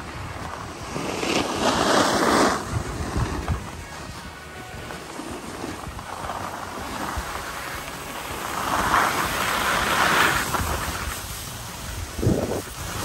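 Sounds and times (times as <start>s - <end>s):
skis scraping over snow: 0.0s - 13.0s
wind rushing over microphone: 0.0s - 13.0s.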